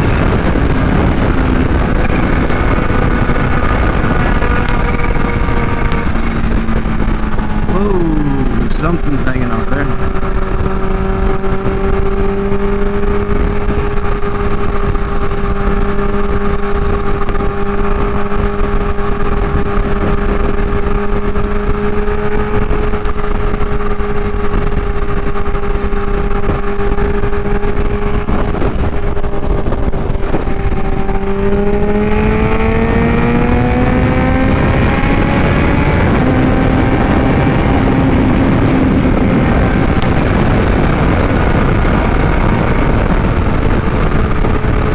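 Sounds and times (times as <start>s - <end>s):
heavy wind rush: 0.0s - 44.9s
motorcycle engine accelerating: 0.0s - 44.9s.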